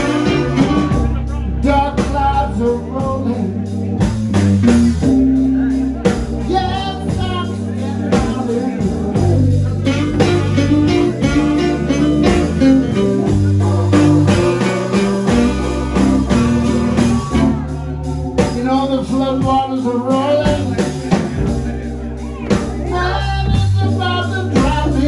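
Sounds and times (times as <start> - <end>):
person singing: 0.0 - 4.1, 6.0 - 25.0
bass and drums: 0.0 - 25.0
electric guitar fills: 0.0 - 25.0.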